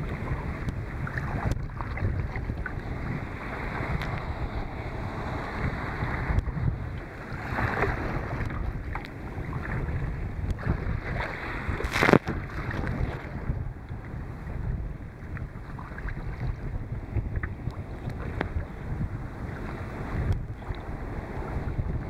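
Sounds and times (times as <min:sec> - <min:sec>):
paddle splash: 0:00.0 - 0:22.0
waves slapping against kayak: 0:00.0 - 0:22.0
wind buffeting microphone: 0:00.0 - 0:22.0.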